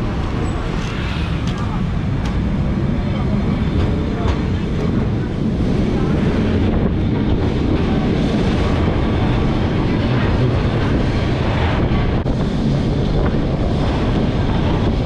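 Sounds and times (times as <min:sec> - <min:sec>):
tram wheels rumbling on rails: 0:00.0 - 0:15.0
wind buffeting microphone: 0:00.0 - 0:15.0.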